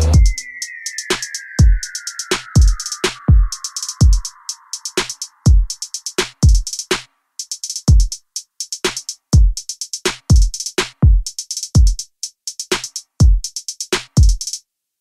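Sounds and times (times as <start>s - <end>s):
electronic drum machine beat: 0.0s - 14.6s.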